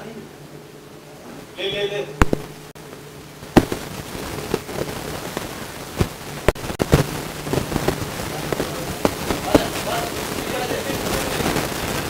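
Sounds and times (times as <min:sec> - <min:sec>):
sharp cracks and pops: 0:02.2 - 0:12.0.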